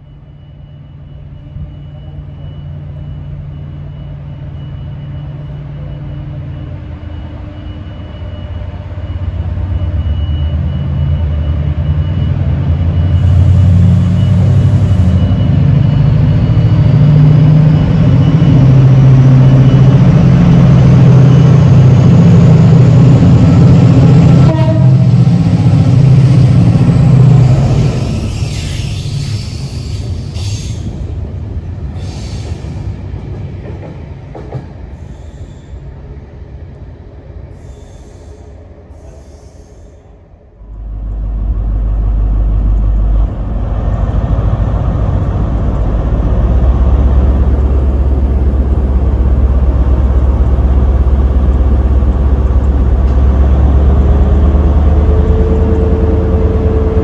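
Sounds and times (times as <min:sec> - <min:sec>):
diesel train passing: 0:00.0 - 0:57.0.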